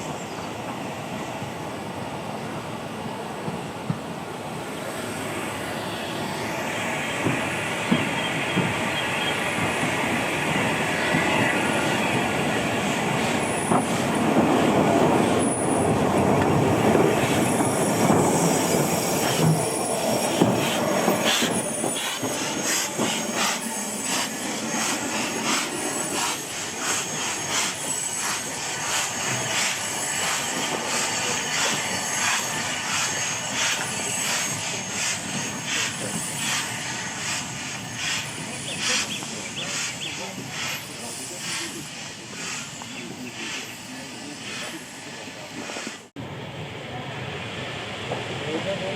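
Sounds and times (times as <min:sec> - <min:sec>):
steam train passing: 0:00.0 - 0:48.9.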